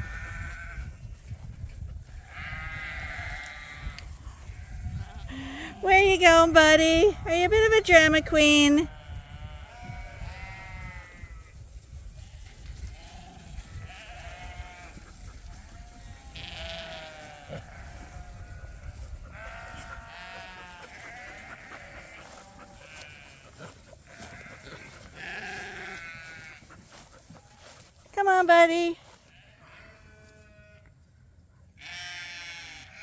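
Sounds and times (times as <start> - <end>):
lambs bleating: 0.0 - 0.9, 2.2 - 6.4, 7.0 - 11.5, 12.2 - 26.8, 28.3 - 30.8, 31.8 - 33.0.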